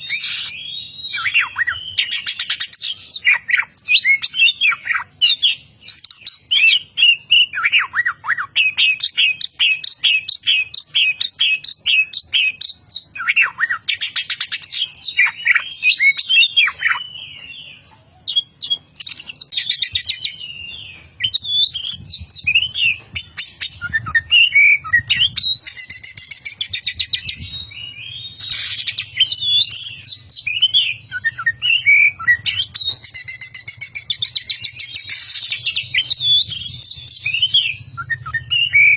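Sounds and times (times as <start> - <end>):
bird singing whistled song: 0.0 - 38.9.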